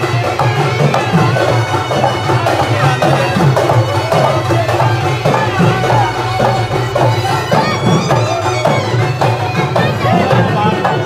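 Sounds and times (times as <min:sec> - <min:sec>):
traditional music with drums: 0:00.0 - 0:11.0.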